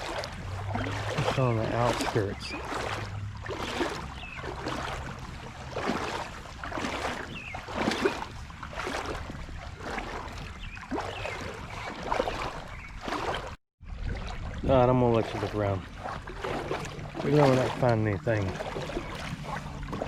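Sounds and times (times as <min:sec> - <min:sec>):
boots wading through water: 0:00.0 - 0:20.0.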